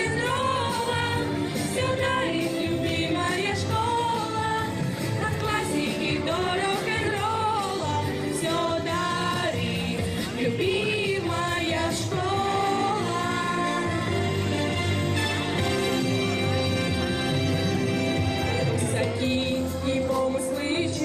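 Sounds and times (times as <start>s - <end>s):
musical accompaniment with beat: 0.0s - 21.0s.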